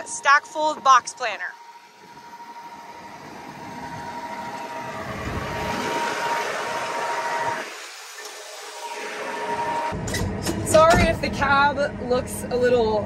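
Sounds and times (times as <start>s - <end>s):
tractor diesel engine whining: 0.0s - 13.0s.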